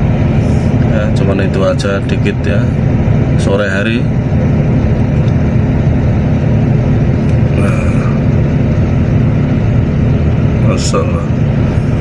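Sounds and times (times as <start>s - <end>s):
large vehicle engine idling: 0.0s - 12.0s.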